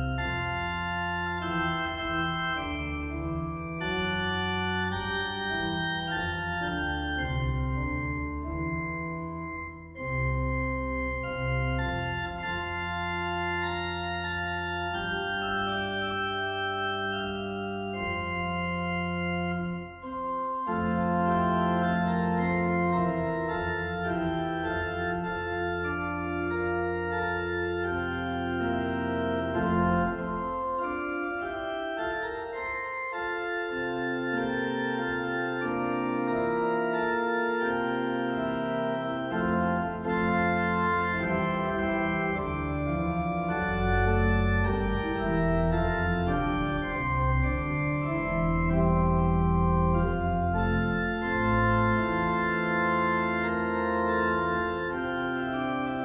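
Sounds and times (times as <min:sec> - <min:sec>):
deep organ pedal bass: 0:00.0 - 0:56.0
electronic organ playing a hymn: 0:00.0 - 0:56.0.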